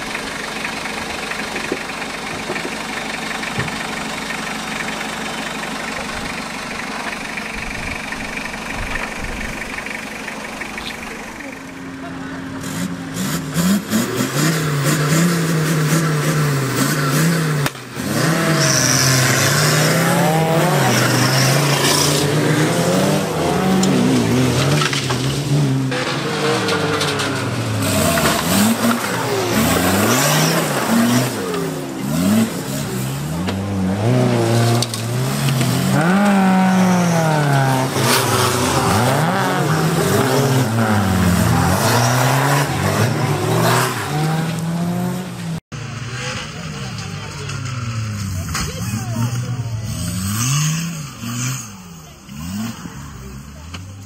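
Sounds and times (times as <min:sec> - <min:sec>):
off-road engines revving: 0:00.0 - 0:54.0.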